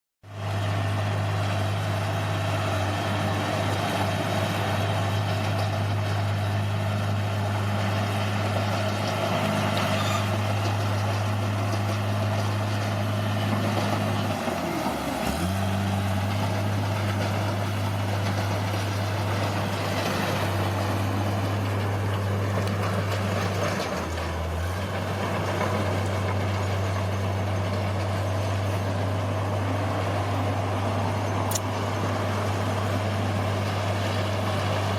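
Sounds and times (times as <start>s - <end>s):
bulldozer diesel engine: 0.2s - 34.9s.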